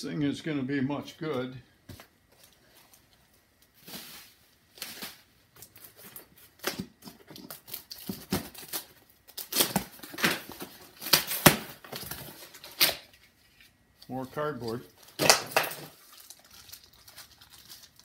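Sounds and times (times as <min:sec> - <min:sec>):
plastic wrap rustling and crinkling: 0:02.2 - 0:18.0.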